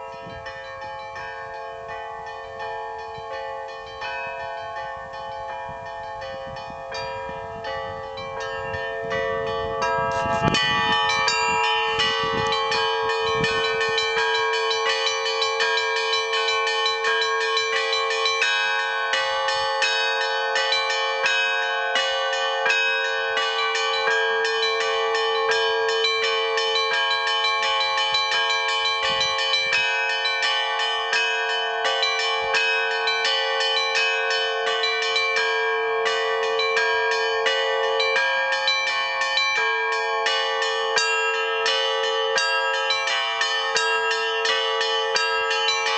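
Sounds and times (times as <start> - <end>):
low church bell ringing: 0.0 - 45.9
small church bells chiming: 0.0 - 45.9.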